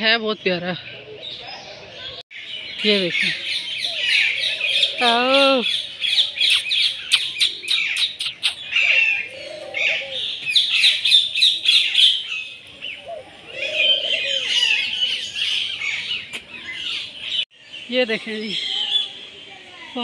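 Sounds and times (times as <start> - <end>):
birds chirping in chorus: 0.0 - 20.0
low rising and falling bird call: 0.8 - 19.1.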